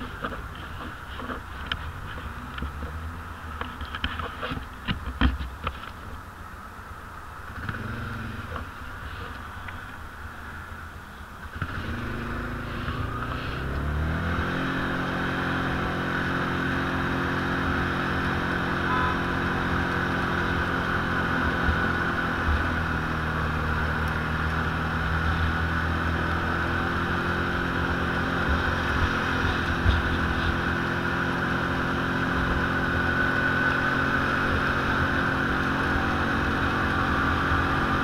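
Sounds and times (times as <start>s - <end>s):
atv engine speeding up: 0.0s - 5.9s, 7.4s - 10.0s, 11.4s - 38.0s.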